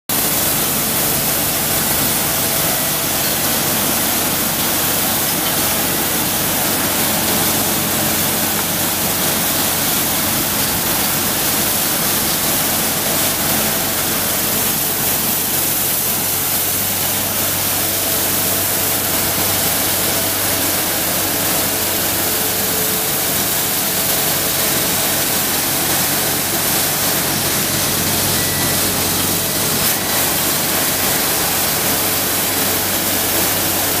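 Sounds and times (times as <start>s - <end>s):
street sweeper rushing hiss: 0.1s - 34.0s.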